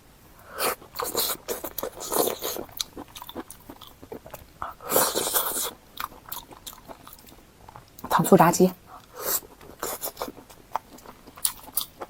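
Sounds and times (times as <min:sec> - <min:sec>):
crunchy food chewing: 0:00.4 - 0:08.2, 0:08.9 - 0:12.0.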